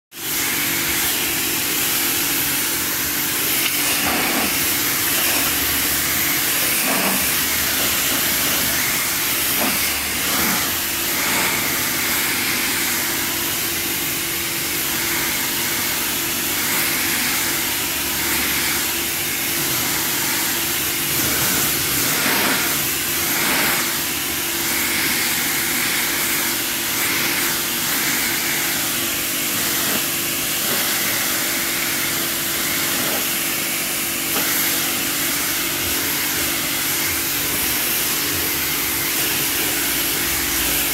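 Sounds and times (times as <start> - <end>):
pressure washer water hiss: 0.1 - 40.9.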